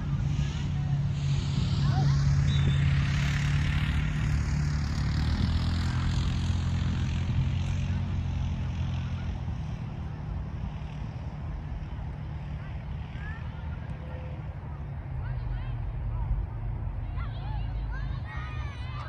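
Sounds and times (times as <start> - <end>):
propeller airplane passing: 0.0 - 19.0.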